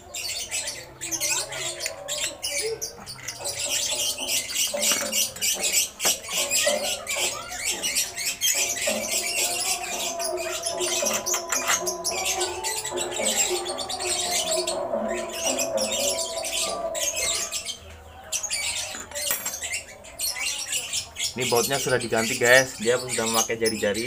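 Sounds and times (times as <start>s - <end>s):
small birds chirping and squawking: 0.0s - 24.0s.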